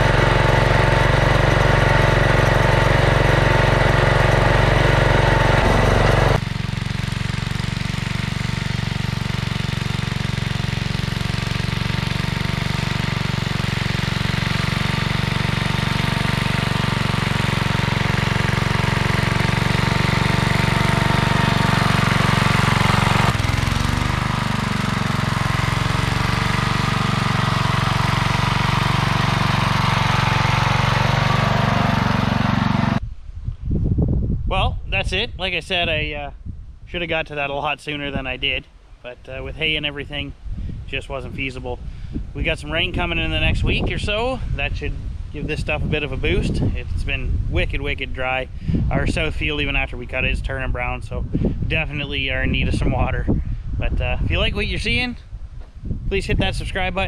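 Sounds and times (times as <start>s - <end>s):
garden tractor engine running: 0.0s - 33.0s, 40.9s - 55.2s.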